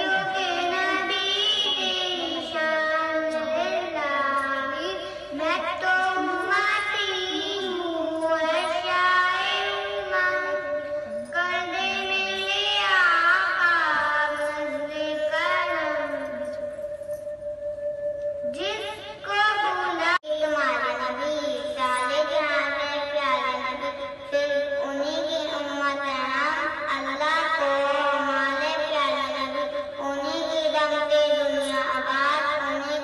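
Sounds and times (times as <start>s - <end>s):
boy singing devotional song: 0.0s - 16.6s, 18.5s - 33.0s.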